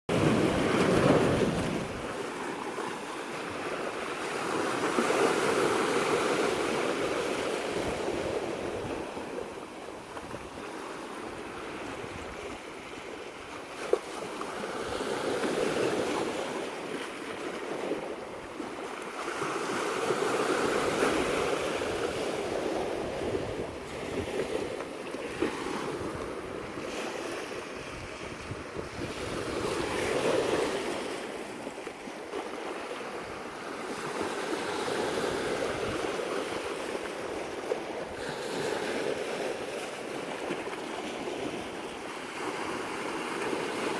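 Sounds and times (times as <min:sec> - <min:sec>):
sea waves washing in: 0:00.1 - 0:43.9
wind: 0:00.1 - 0:43.9.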